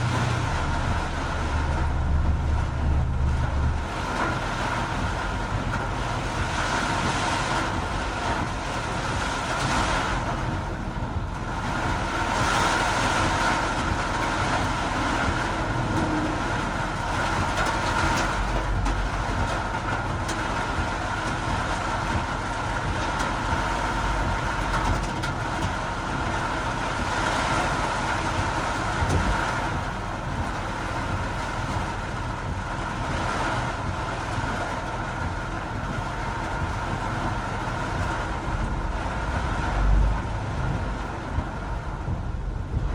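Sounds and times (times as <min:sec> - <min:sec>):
heavy rain: 0:00.0 - 0:42.9
tyres on a wet road: 0:00.0 - 0:42.9.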